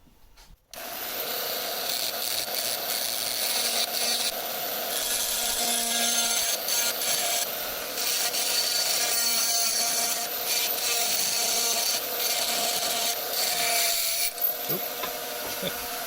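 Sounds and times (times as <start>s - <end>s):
rotary tool motor whine: 0.8s - 16.0s.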